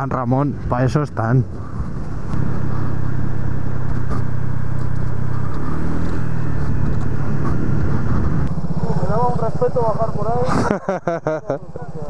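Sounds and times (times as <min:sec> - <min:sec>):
scooter engine running: 0:01.5 - 0:12.0.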